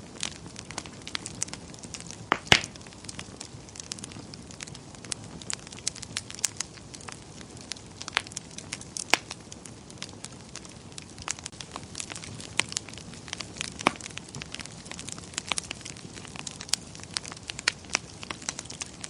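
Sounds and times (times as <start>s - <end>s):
fire soft hiss: 0.0s - 19.0s
wood fire crackling and popping: 0.0s - 19.0s.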